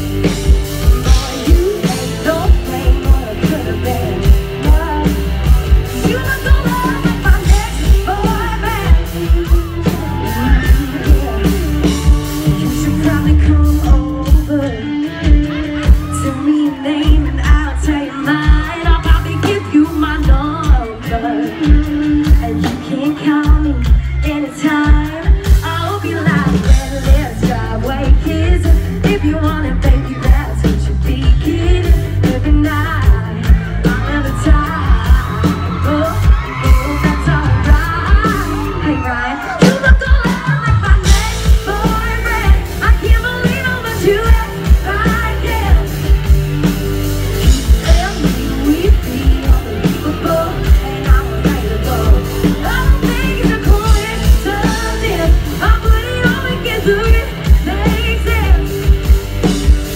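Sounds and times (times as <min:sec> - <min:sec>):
live band playing country-pop: 0:00.0 - 0:59.9
steady drum beat: 0:00.0 - 0:59.9
woman singing: 0:00.0 - 0:59.9.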